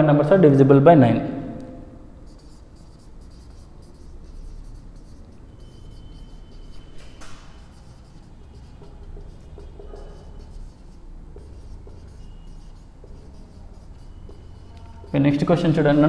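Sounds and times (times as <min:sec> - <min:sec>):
marker squeaking on whiteboard: 0:02.2 - 0:16.0.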